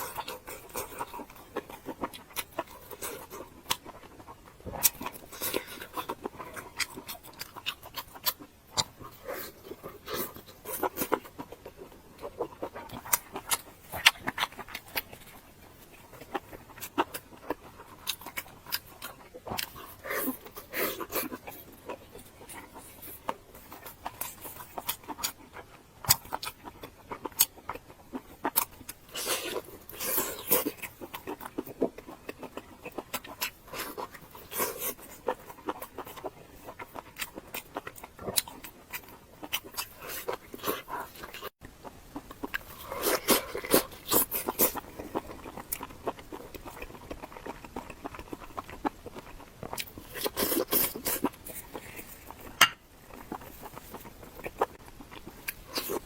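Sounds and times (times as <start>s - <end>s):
chewing with wet mouth clicks: 0.0s - 56.0s.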